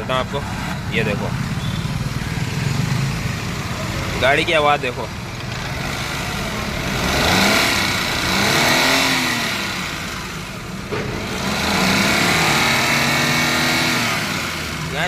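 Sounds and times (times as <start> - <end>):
car engine revving harshly: 0.0 - 15.0.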